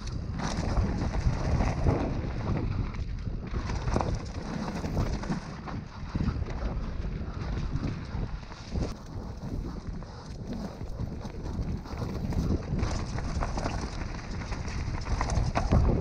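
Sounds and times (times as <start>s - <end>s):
bike rattling over bumps: 0.0s - 16.0s
bike tyres rolling over dirt: 0.0s - 16.0s
wind buffeting microphone: 0.0s - 16.0s.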